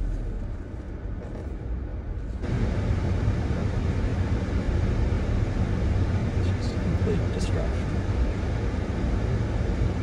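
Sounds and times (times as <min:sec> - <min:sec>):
low hum in car cabin: 0:00.0 - 0:10.0
road and tyre noise: 0:00.0 - 0:10.0.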